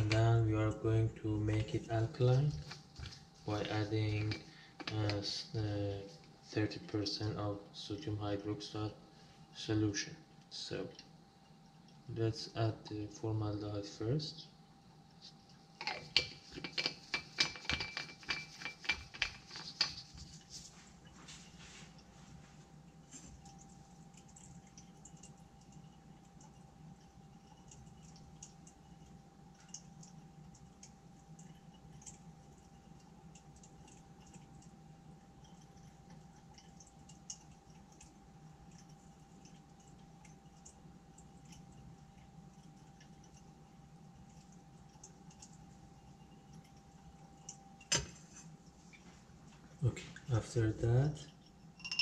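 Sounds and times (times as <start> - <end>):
magnetic stirrer hum and whine: 0.0 - 52.0.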